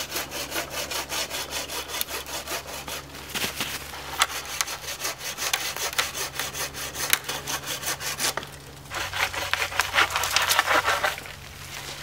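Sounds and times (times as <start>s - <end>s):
hand saw cutting wood: 0.0s - 12.0s.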